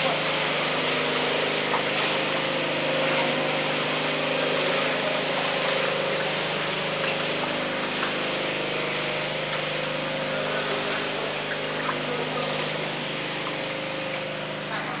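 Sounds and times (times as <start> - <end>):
footsteps splashing through water: 0.0 - 15.0
steady machine hum: 0.0 - 15.0.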